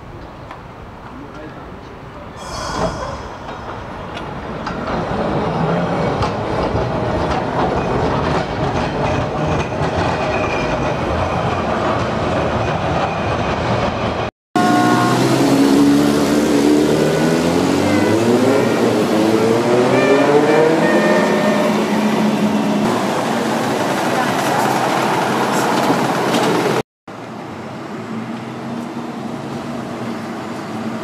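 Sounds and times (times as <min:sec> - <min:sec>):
tram rumbling on rails: 0:00.0 - 0:31.0.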